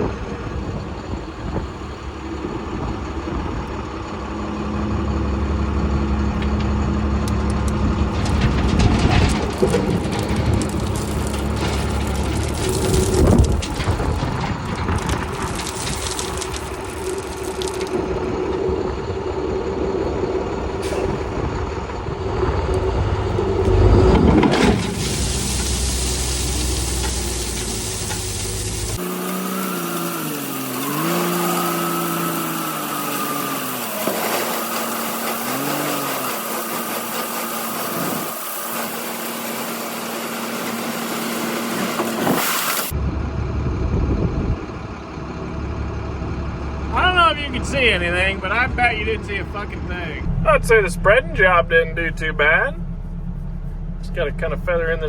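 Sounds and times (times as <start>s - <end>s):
heavy equipment diesel engine running: 0.0s - 55.0s.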